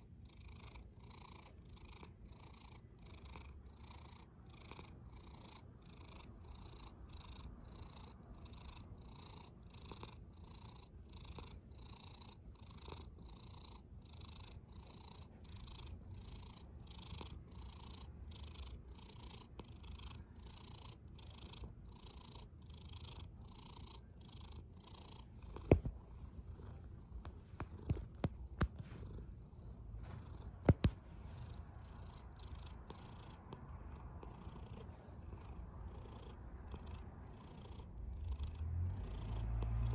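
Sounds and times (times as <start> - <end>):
cat snoring: 0.0 - 39.9.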